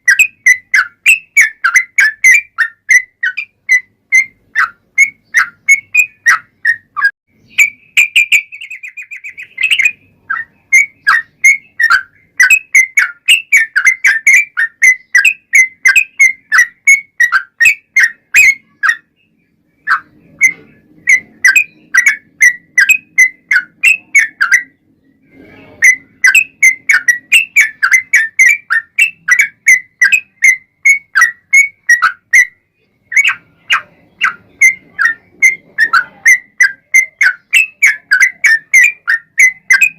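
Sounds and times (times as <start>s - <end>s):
bulbul singing repeated notes: 0.0s - 39.9s.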